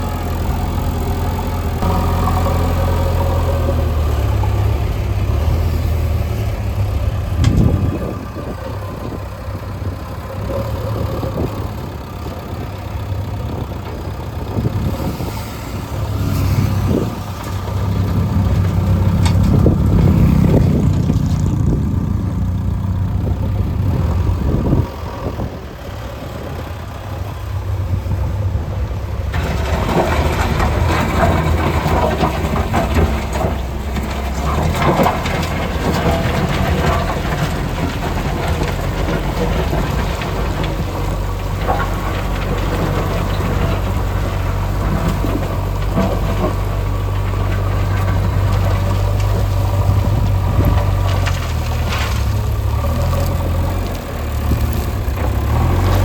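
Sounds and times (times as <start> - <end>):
diesel machinery engines running: 0.0 - 56.0.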